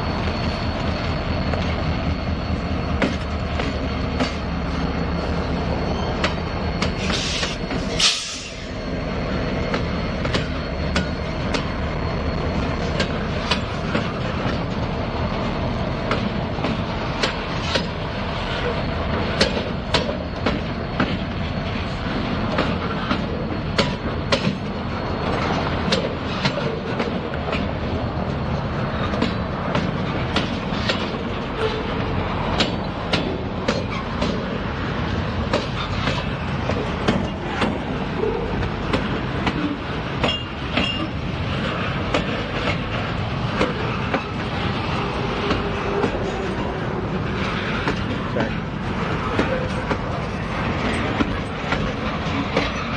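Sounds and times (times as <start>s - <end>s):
train rumble: 0.0s - 52.9s
train wheels clacking over rail joints: 0.1s - 8.7s, 9.6s - 52.9s.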